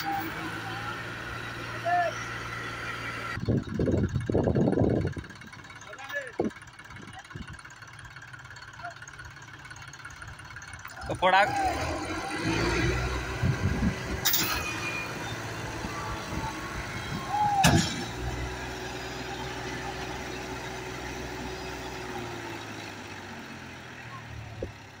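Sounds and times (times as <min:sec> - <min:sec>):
combine harvester engine hum: 0:00.0 - 0:25.0.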